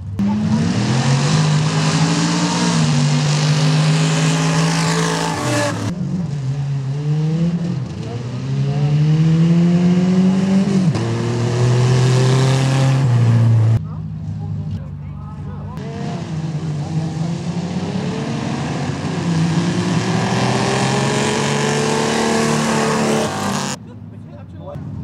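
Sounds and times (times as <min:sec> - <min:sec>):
truck engines at full throttle: 0:00.0 - 0:25.0.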